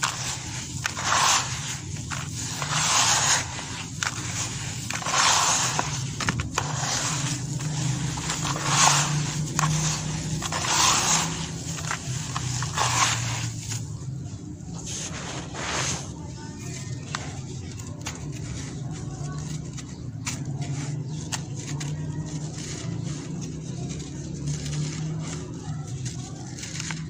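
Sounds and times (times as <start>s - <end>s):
hands squeezing wet cement mix: 0.0s - 27.0s.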